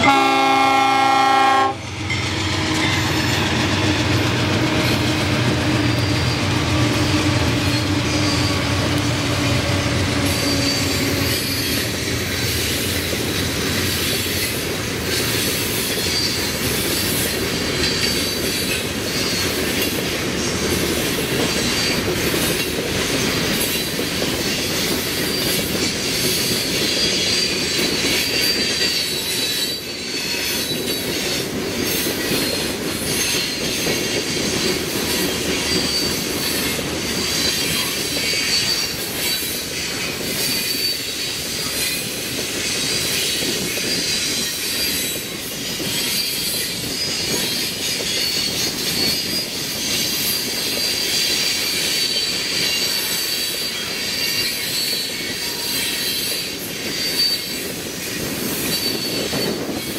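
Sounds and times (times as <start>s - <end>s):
high wheel squeal: 0.0s - 20.5s, 23.2s - 59.9s
train cars rumbling on rails: 0.0s - 59.9s.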